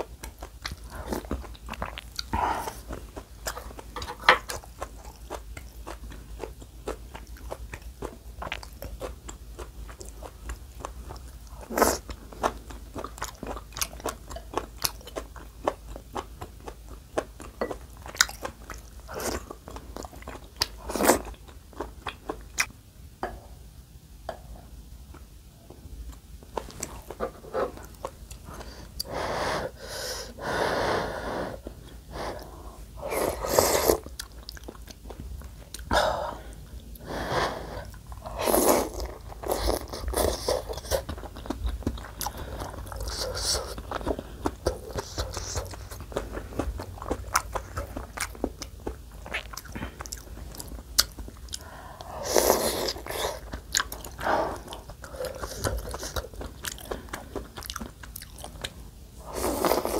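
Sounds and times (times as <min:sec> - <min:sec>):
close chewing: 0:00.0 - 0:22.7, 0:32.4 - 0:35.9, 0:37.8 - 0:59.9.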